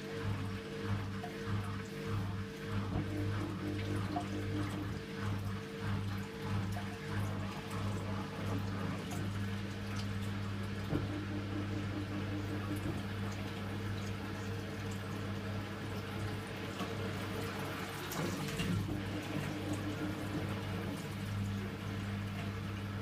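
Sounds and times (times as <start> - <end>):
washing machine water sloshing: 0.0 - 23.0.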